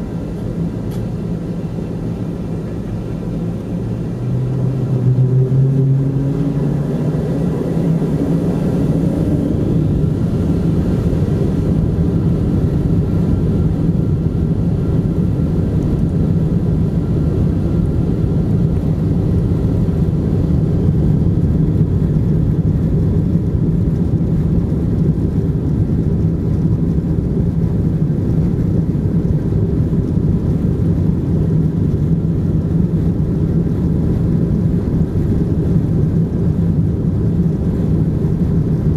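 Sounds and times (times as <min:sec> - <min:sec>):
jet engines low rumble in cabin: 0:00.0 - 0:38.9
low hum: 0:00.0 - 0:38.9.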